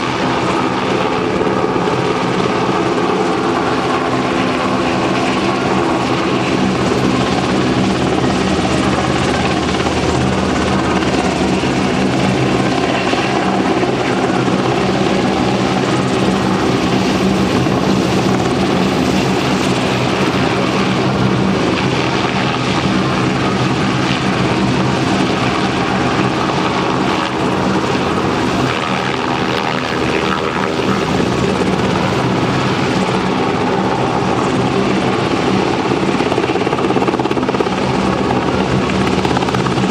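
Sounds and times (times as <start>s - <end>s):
helicopter rotor beat: 0.0s - 39.9s
turbine engine whine: 0.0s - 39.9s.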